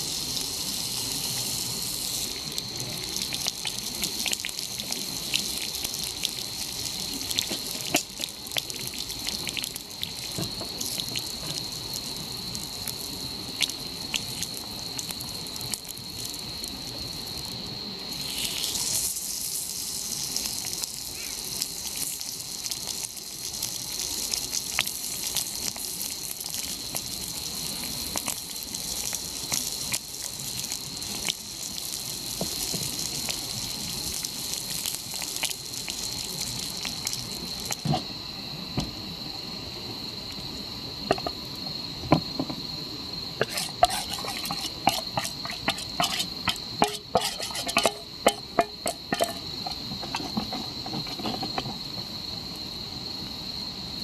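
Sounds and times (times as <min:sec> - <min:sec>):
crickets chirping: 0:00.0 - 0:54.0
hiss: 0:00.0 - 0:54.0.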